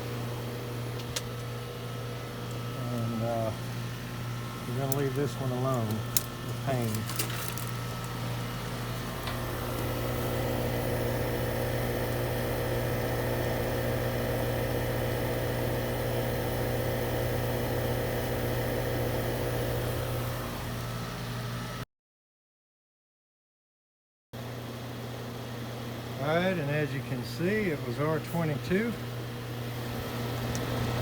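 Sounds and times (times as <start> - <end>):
air conditioner unit humming: 0.0 - 21.8, 24.4 - 31.0.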